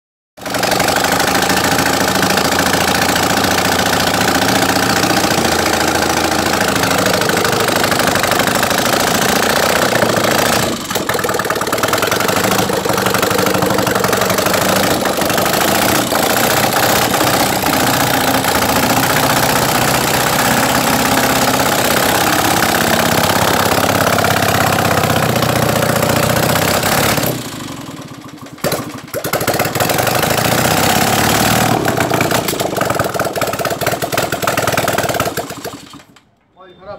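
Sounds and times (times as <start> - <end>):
motorcycle engine running: 0.4 - 36.2.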